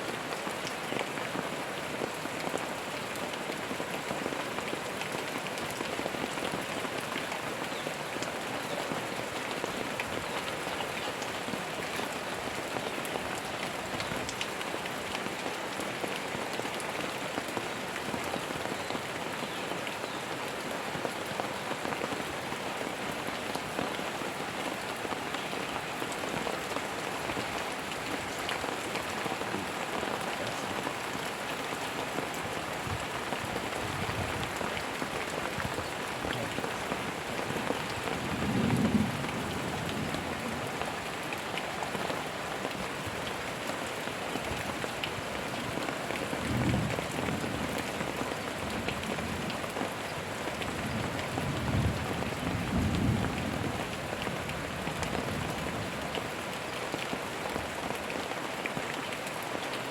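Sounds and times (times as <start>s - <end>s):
rain falling: 0.0s - 59.9s
raindrops clicking on a surface: 0.1s - 59.9s.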